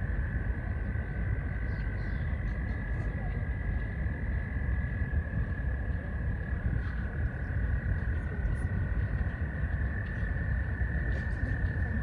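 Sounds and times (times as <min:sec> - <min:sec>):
frogs trilling: 0:00.0 - 0:12.0
low rumble: 0:00.0 - 0:12.0.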